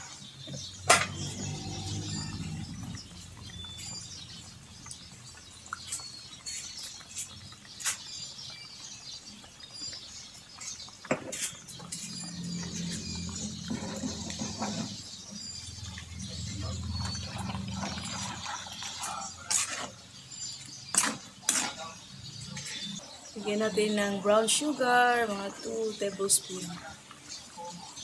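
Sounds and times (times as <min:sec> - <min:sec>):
stew bubbling in a pot: 0:00.0 - 0:23.9.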